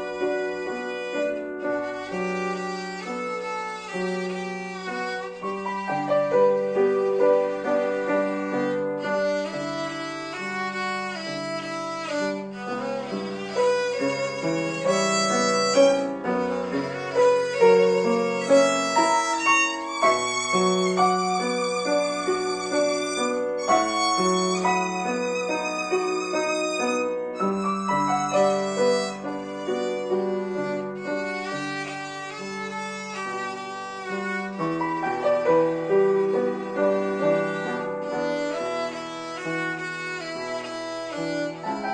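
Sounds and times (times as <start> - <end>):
piano accompaniment: 0.0 - 41.9
violin melody with vibrato: 0.0 - 41.9.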